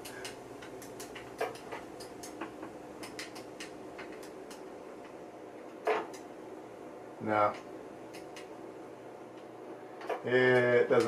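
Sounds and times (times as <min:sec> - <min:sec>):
computer and disk drives humming: 0:00.0 - 0:11.0.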